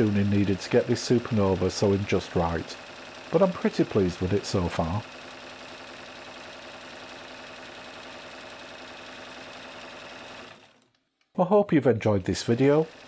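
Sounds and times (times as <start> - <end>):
sewing machine running: 0.0 - 10.9, 12.2 - 13.0.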